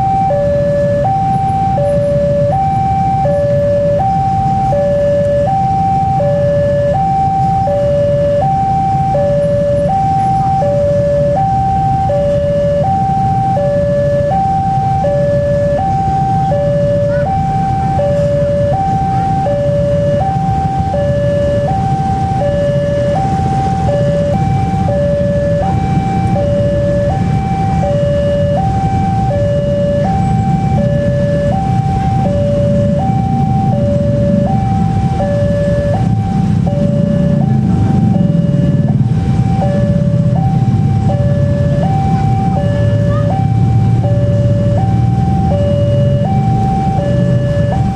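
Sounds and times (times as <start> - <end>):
two-tone crossing alarm: 0.0 - 47.9.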